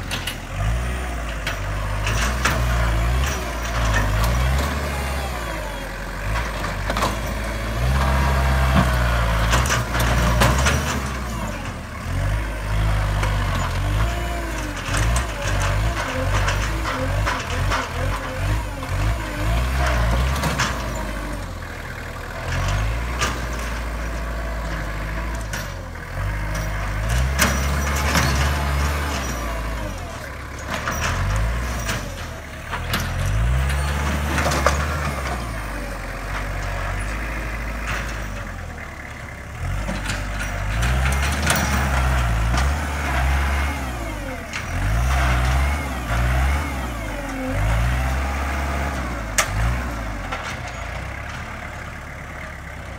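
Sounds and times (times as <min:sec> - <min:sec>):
tractor diesel engine: 0:00.0 - 0:52.9.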